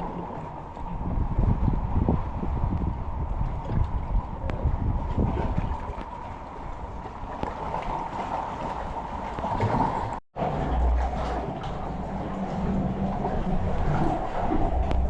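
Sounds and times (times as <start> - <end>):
sea water splashing around kayak: 0.0 - 15.0
wind: 0.0 - 15.0.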